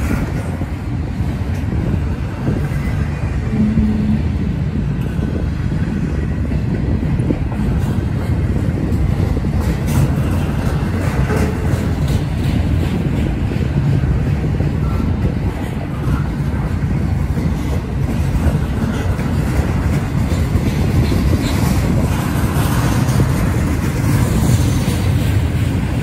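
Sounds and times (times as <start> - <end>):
clicks and clacks of train cars: 0.0 - 26.0
train wheels rumbling on rails: 0.0 - 26.0.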